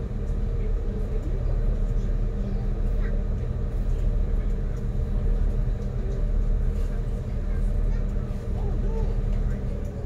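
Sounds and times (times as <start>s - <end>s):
boat engines droning: 0.0s - 10.0s.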